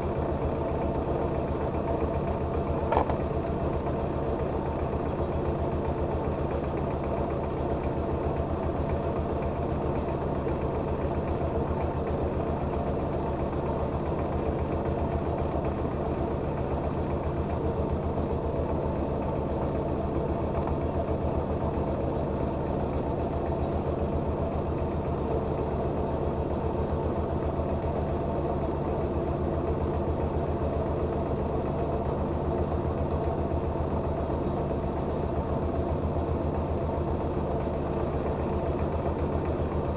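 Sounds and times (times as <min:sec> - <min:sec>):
rice milling machine engine: 0:00.0 - 0:39.9.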